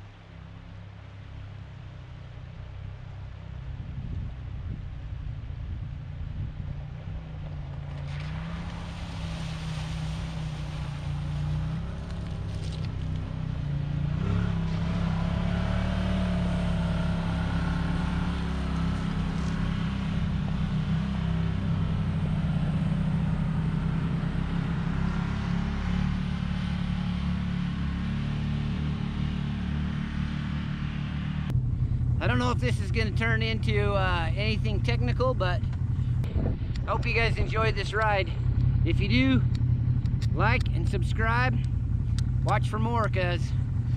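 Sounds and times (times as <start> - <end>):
utility vehicle engine running: 0.9 - 43.9.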